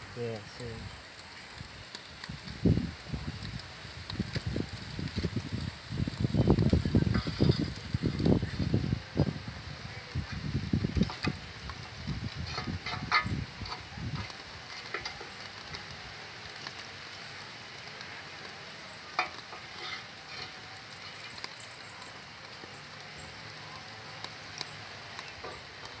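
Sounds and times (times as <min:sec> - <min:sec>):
burning wood crackling and popping: 0:00.0 - 0:26.0
food sizzling on grill: 0:00.0 - 0:26.0.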